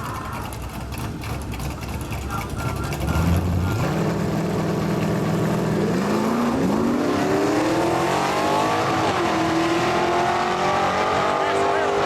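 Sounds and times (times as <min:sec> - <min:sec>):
drag car engine revving: 0:00.0 - 0:12.0.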